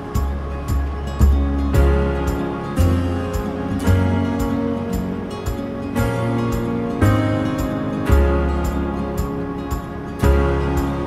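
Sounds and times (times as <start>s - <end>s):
acoustic folk instrumental music: 0.0s - 11.0s.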